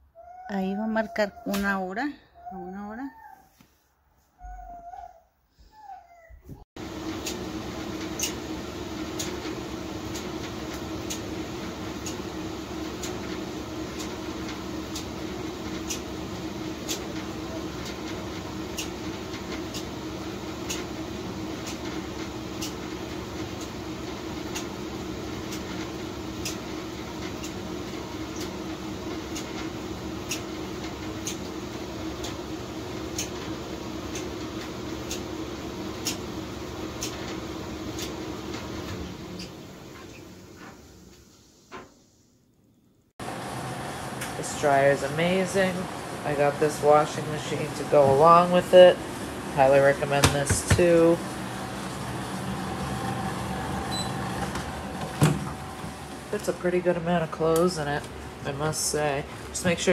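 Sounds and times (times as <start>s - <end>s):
tumble dryer humming: 6.8s - 40.7s, 43.2s - 59.9s.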